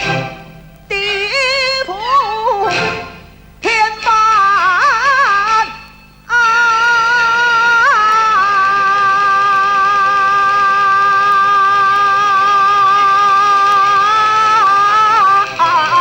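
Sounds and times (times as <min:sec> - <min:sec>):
opera accompaniment: 0:00.0 - 0:16.0
opera singing with vibrato: 0:00.0 - 0:16.0.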